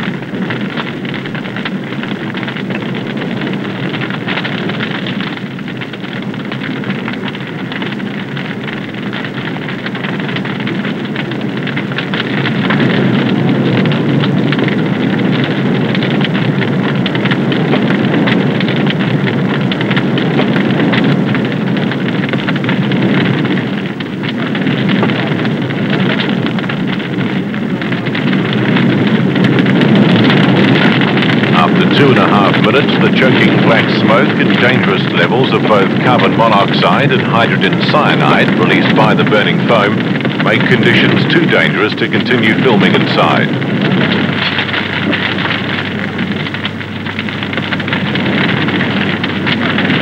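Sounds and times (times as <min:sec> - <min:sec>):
fire roaring and crackling: 0:00.0 - 0:50.0.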